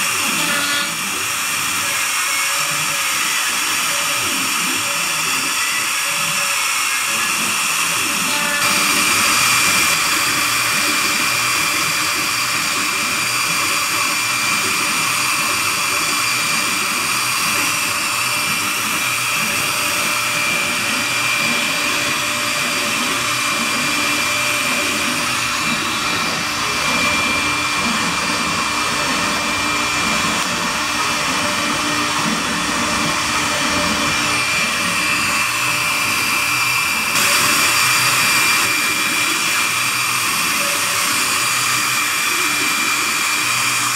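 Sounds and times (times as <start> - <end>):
hiss of bit cutting wood: 0.0 - 43.9
router spindle whining: 0.0 - 43.9.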